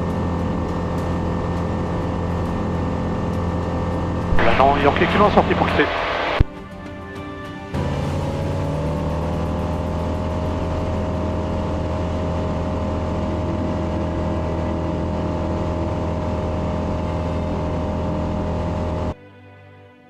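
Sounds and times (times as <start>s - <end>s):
propeller engine running: 0.0s - 19.2s.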